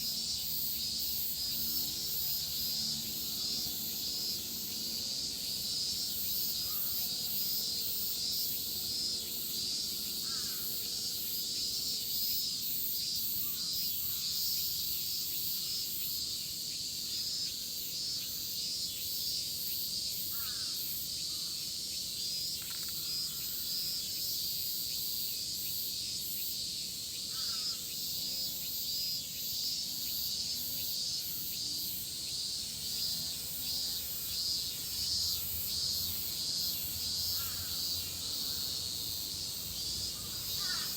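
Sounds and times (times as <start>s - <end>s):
cicadas shrilling: 0.0s - 40.9s.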